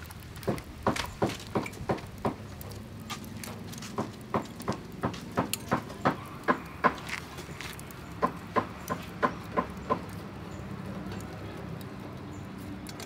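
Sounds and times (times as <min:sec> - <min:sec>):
butter popping and crackling: 0:00.0 - 0:13.0.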